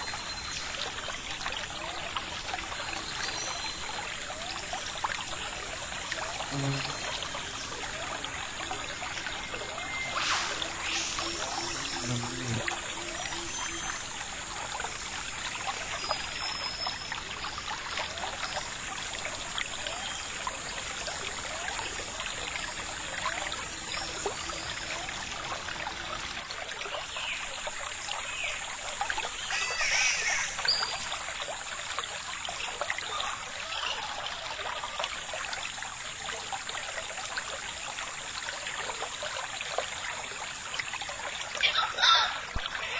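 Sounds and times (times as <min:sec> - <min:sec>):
trickling running water: 0:00.0 - 0:42.9.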